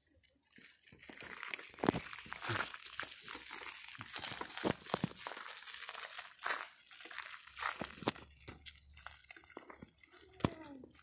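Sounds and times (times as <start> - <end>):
gravel and dirt crunching: 0.0 - 11.0.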